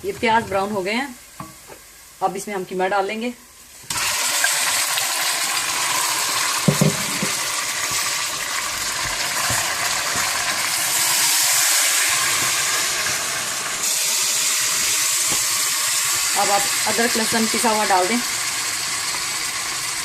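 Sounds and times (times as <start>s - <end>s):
meat sizzling in a pot: 0.8s - 20.0s.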